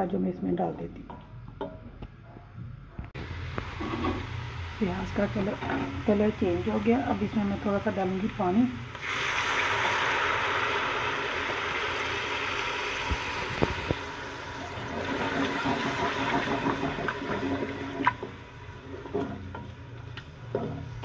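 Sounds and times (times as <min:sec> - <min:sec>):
onion paste hissing and sizzling: 0:03.2 - 0:21.0.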